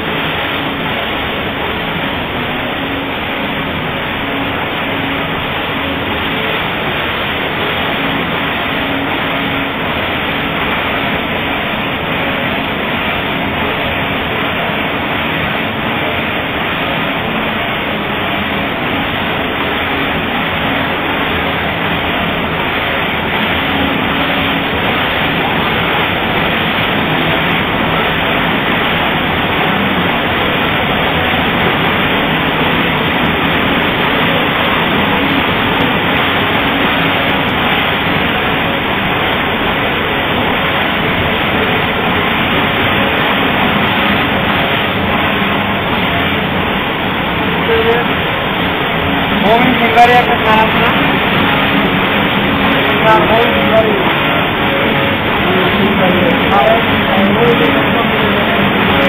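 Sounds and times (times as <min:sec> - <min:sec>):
knitting machines running: 0:00.0 - 0:59.0.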